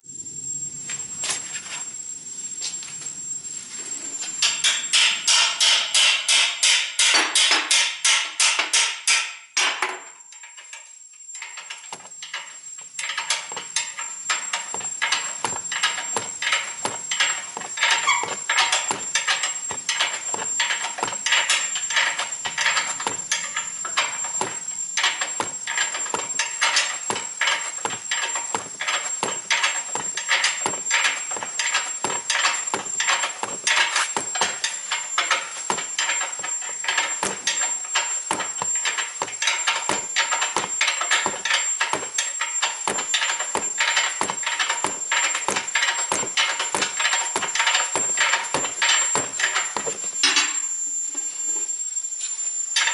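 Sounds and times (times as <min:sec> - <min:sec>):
metallic clinks of hand tools: 0:04.4 - 0:51.3
faint high-pitched whine: 0:09.3 - 0:52.9.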